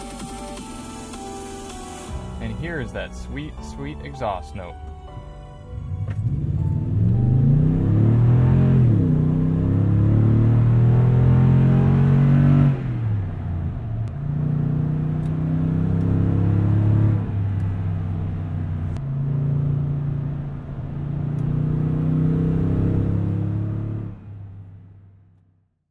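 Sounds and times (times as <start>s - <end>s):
truck engine accelerating: 0.0s - 25.4s.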